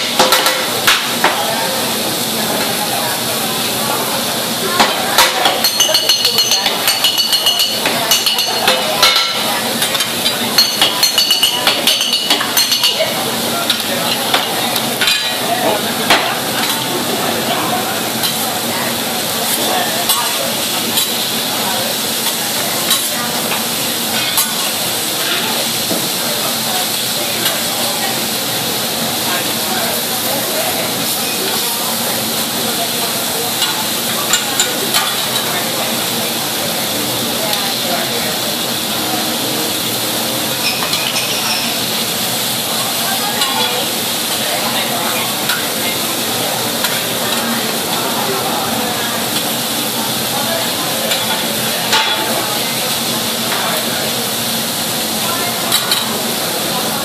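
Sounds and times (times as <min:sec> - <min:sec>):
chicken sizzling on a griddle: 0:00.0 - 0:57.0.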